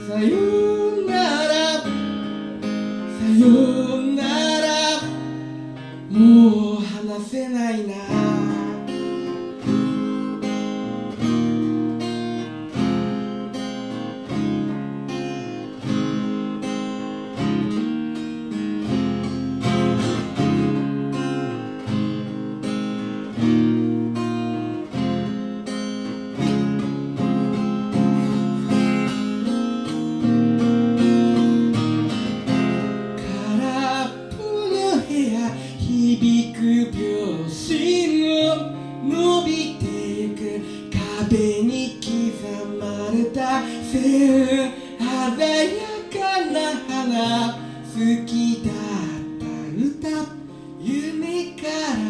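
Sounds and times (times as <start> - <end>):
strummed acoustic guitar chords: 0.0 - 52.0
band instrumental with guitar: 7.9 - 52.0.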